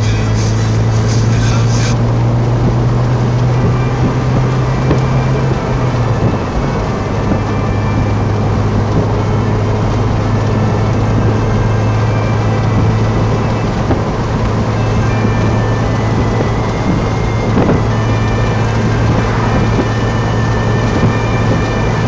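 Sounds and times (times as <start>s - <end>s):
car engine cruising: 0.0s - 22.0s
road noise: 0.0s - 22.0s
wind noise: 0.0s - 22.0s.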